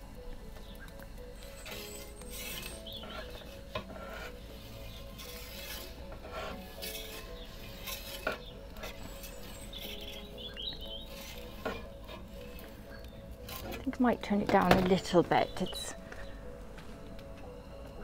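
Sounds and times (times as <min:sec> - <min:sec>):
metal peel scraping stone: 0:01.4 - 0:15.8.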